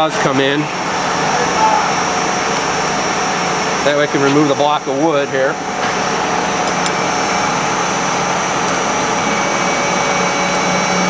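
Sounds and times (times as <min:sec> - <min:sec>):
low hum: 0:00.6 - 0:11.0.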